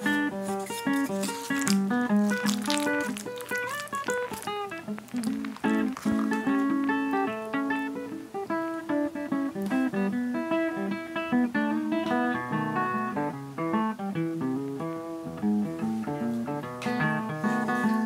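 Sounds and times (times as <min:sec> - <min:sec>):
acoustic guitar plucked melody: 0:00.0 - 0:18.0.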